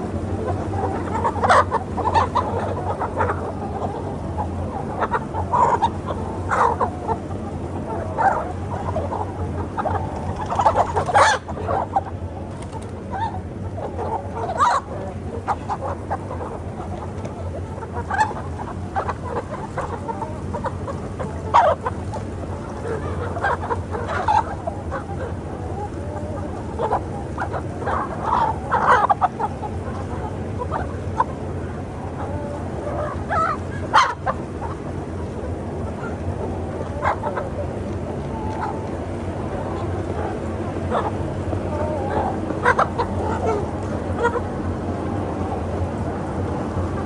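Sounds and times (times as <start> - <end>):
chickens clucking: 0.0 - 47.0
low background hum: 0.0 - 47.0.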